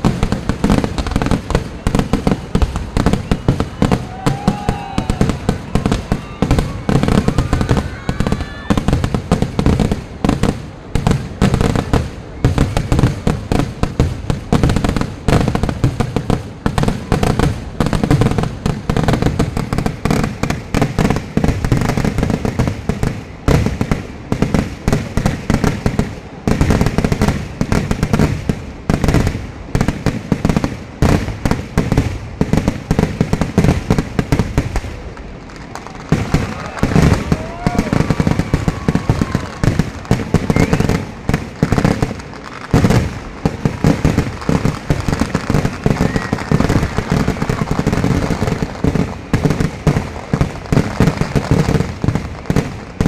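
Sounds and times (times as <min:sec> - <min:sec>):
fireworks banging: 0:00.0 - 0:53.0.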